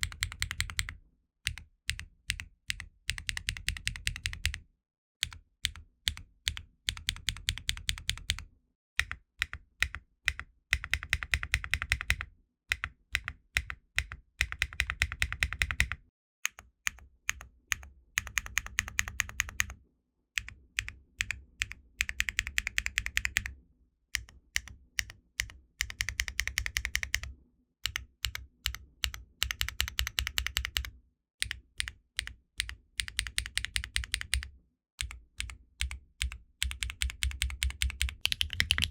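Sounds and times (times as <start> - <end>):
mechanical keyboard typing: 0.0 - 4.6, 5.2 - 8.4, 9.0 - 12.2, 12.8 - 19.8, 20.4 - 23.5, 24.2 - 38.9.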